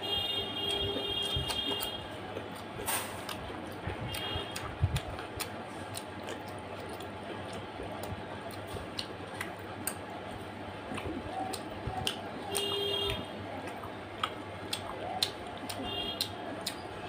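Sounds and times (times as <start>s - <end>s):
wet mouth clicks and smacks: 0.7s - 16.8s.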